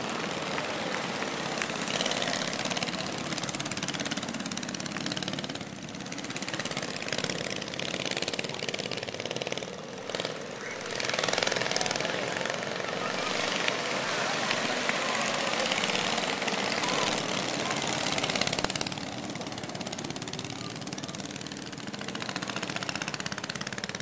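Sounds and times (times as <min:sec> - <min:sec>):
go-kart engines buzzing: 0:00.0 - 0:24.0.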